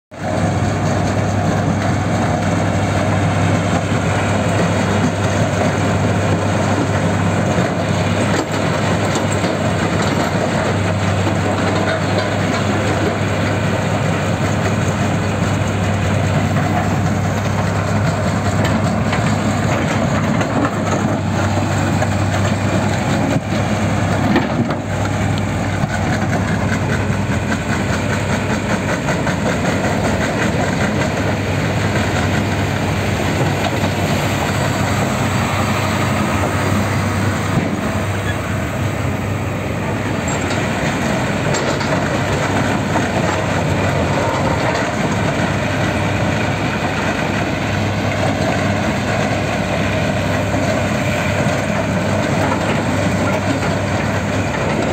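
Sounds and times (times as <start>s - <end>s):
diesel engine drone: 0.1s - 54.9s
grinding and clatter of concrete: 0.2s - 54.9s.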